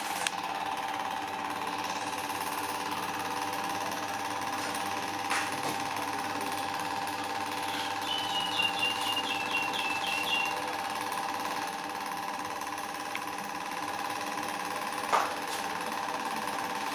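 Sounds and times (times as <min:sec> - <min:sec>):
power tool motor chattering: 0:00.0 - 0:16.9.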